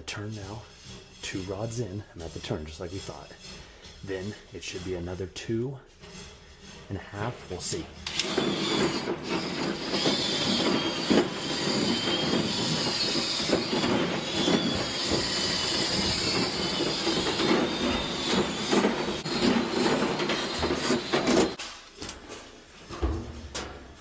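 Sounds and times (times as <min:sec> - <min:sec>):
rotary brush scraping metal duct: 0:00.0 - 0:21.6.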